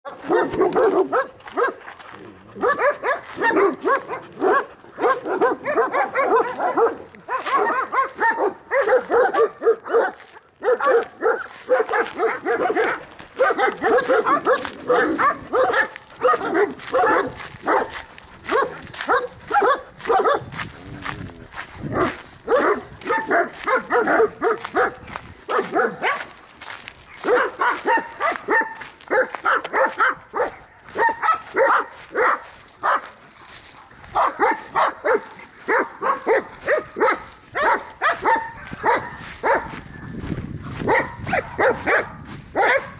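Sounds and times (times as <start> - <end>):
dog barking: 0.1 - 26.4, 27.1 - 42.9.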